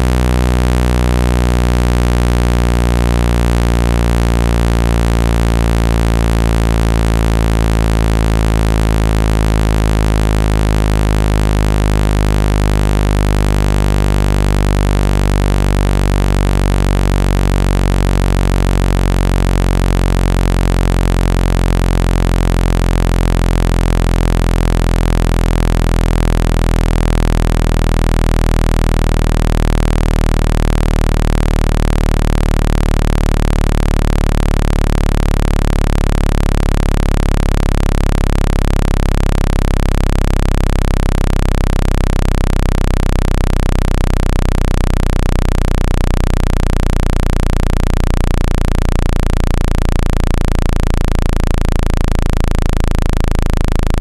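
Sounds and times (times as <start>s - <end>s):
low synthetic buzzing tone: 0.0s - 54.0s.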